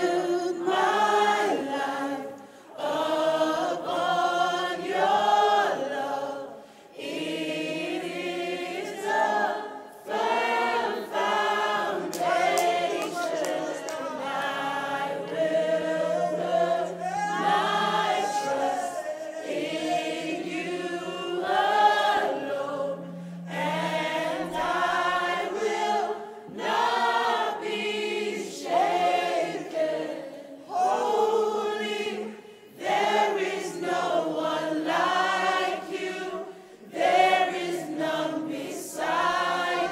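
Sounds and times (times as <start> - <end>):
group singing a worship song: 0.0 - 39.9.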